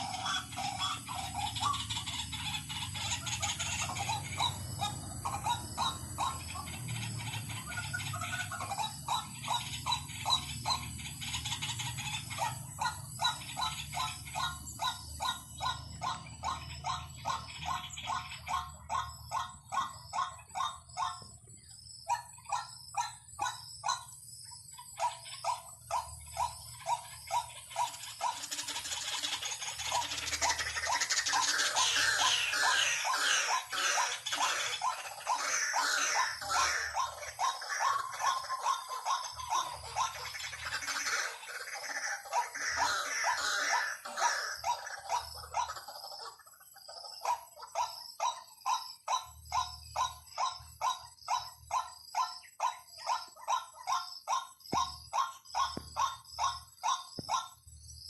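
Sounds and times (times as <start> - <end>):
waterhen calls: 0.0 - 21.3, 25.0 - 57.5.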